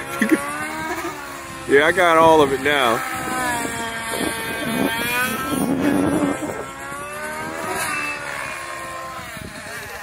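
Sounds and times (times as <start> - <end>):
model helicopter engine whine: 0.0 - 10.0.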